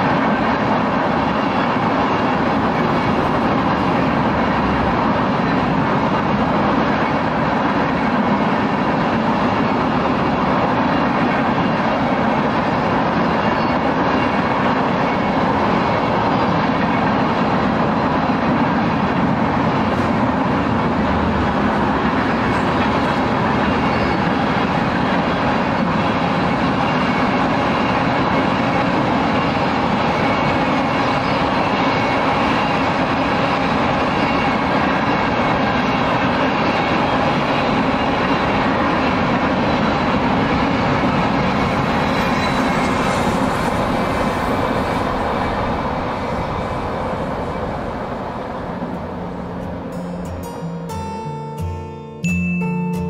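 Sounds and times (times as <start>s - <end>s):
train wheels rolling on rails: 0.0s - 51.0s.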